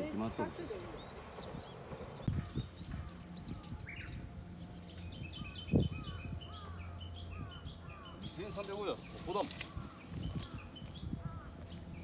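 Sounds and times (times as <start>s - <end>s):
low steady hum: 0.0s - 12.0s
small birds chirping: 0.0s - 12.0s.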